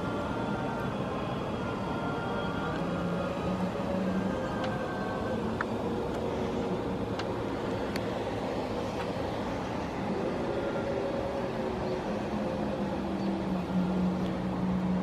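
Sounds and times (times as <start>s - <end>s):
faint vehicle engine hum: 0.0s - 15.0s.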